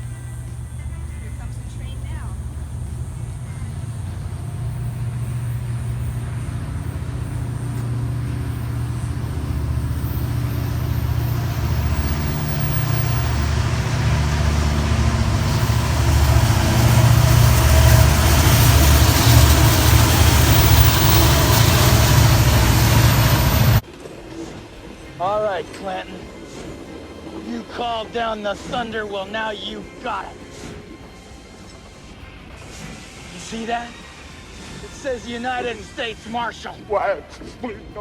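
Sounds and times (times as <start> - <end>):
diesel train engine rumble: 0.0 - 38.0
train wheel and rail noise: 0.0 - 38.0.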